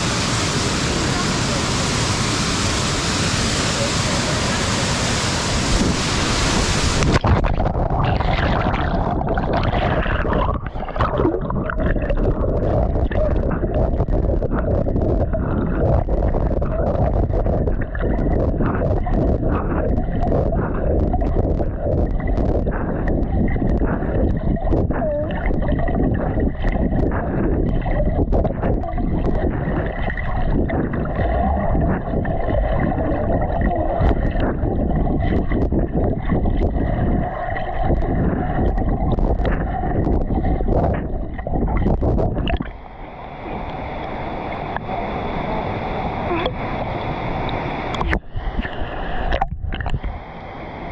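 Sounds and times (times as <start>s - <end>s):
churning rushing water: 0.0s - 50.9s.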